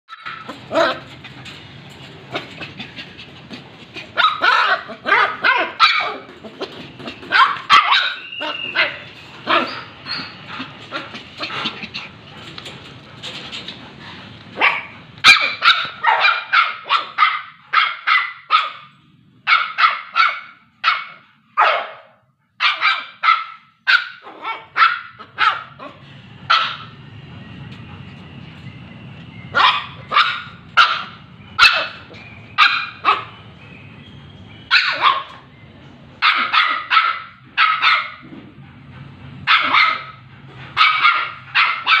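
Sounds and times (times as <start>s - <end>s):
puppies yapping: 0.1s - 18.9s, 19.5s - 27.0s, 29.5s - 35.6s, 36.2s - 38.3s, 39.4s - 42.0s.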